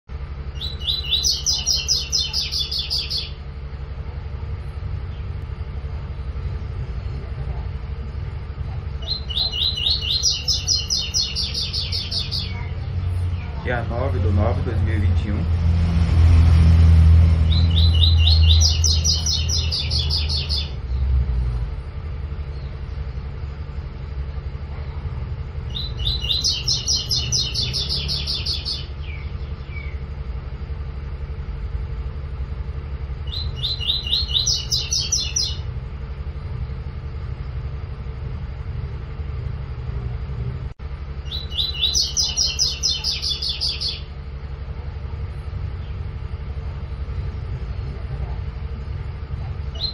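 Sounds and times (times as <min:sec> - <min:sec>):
low rumble: 0:00.1 - 0:49.9.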